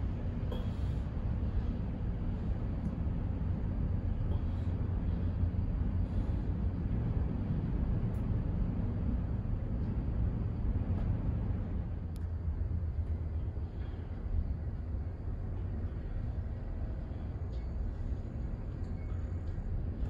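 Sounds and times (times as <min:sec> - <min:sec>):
cable car rumble: 0:00.0 - 0:20.0.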